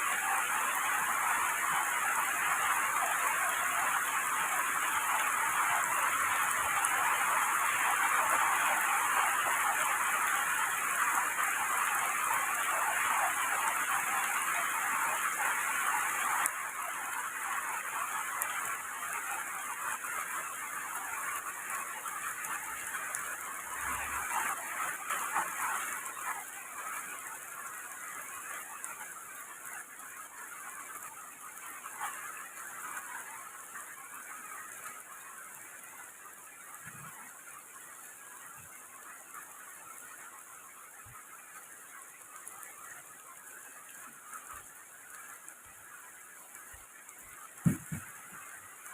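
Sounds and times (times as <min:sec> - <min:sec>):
heavy rain on trees: 0:00.0 - 0:48.9.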